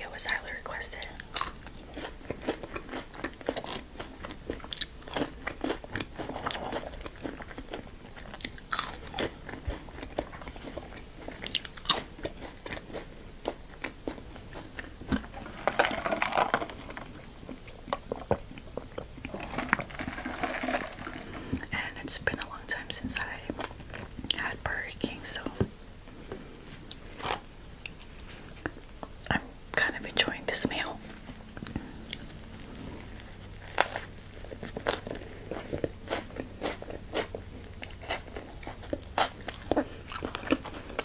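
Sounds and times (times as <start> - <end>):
person chewing crunchy food: 0.4 - 25.5, 26.1 - 29.4, 30.7 - 41.0.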